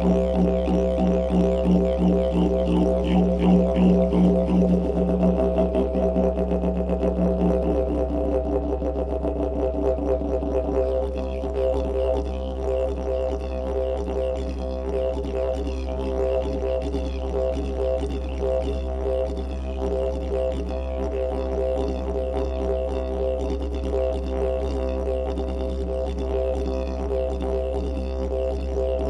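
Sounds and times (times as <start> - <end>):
didgeridoo drone: 0.0 - 29.0.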